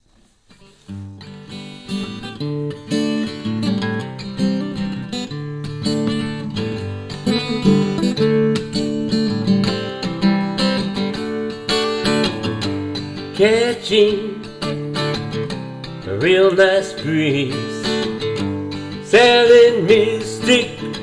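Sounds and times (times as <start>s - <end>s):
acoustic guitar strumming: 0.6s - 21.0s.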